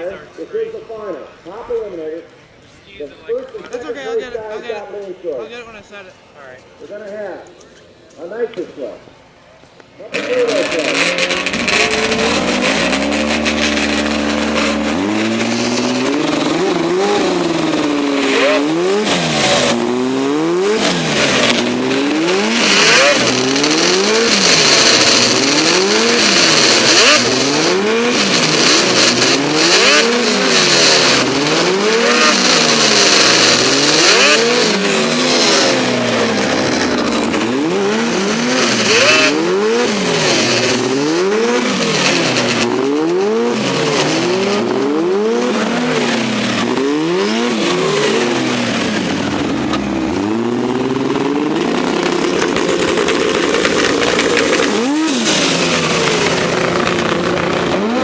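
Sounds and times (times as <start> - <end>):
snowmobile engine revving: 10.0 - 58.0.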